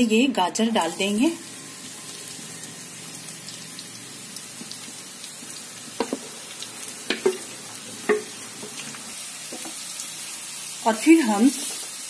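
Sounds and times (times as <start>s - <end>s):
carrots sizzling in ghee: 0.0s - 12.0s.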